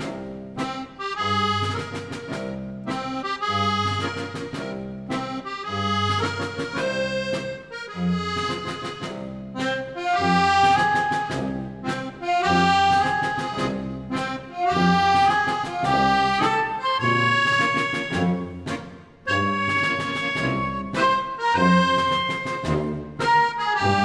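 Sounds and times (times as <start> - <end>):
accordion music: 0.0 - 24.0.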